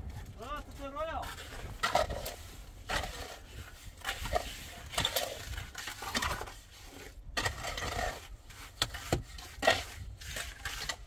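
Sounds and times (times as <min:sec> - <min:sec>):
scraping and rubbing: 0:00.0 - 0:11.0.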